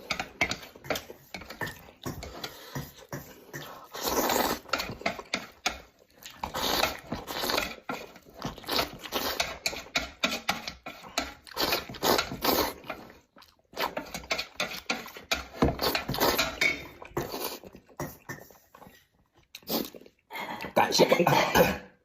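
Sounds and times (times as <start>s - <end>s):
person eating noodles: 0.0s - 21.8s.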